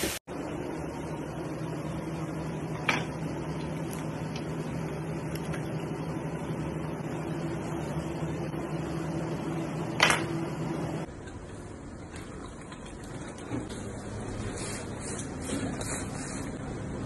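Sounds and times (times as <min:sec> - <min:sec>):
kitchen machinery hum: 0:00.0 - 0:17.0.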